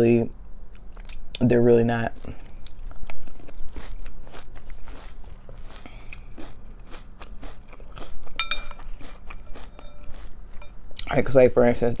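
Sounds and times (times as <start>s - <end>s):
chewing crunchy cereal: 0.8s - 11.1s.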